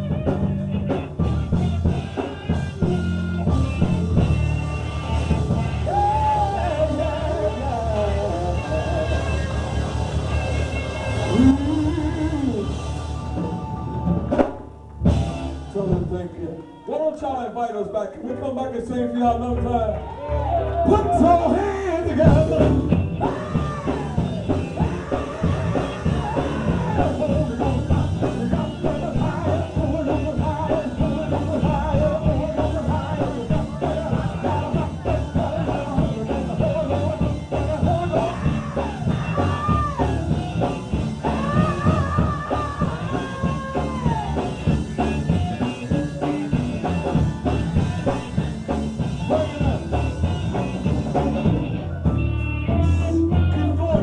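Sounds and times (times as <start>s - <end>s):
gospel singing with band: 0.0s - 16.5s, 20.0s - 54.0s
lead voice holding long notes: 2.5s - 14.4s, 15.0s - 48.2s.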